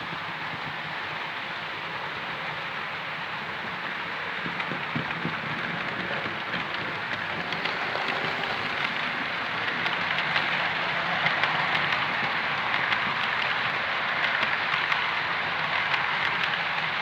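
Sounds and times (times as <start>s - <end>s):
model train wheels and motor whirring: 0.0s - 17.0s.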